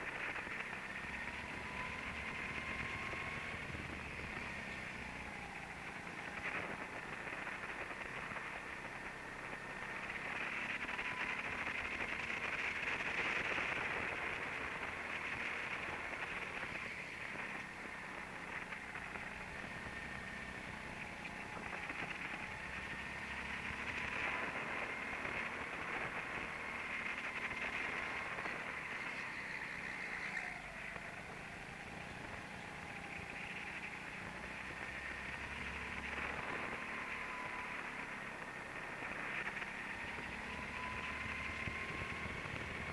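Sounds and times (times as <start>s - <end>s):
rushing wind noise: 0.0s - 42.9s
go-kart motor whining: 0.1s - 42.9s.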